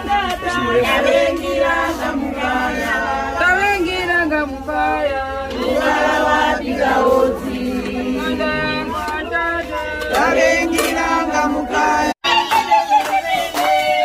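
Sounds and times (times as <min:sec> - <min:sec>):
group singing in chorus: 0:00.0 - 0:14.0.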